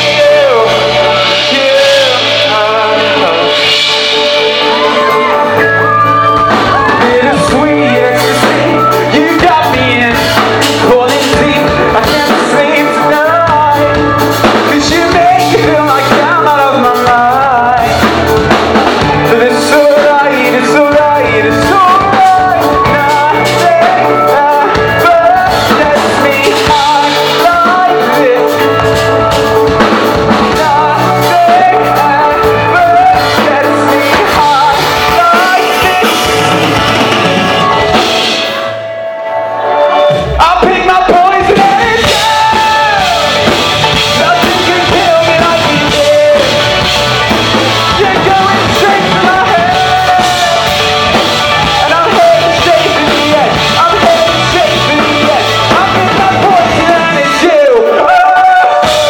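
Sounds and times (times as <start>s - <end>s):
drums bass and guitar: 0.0s - 59.0s
person singing: 0.0s - 59.0s.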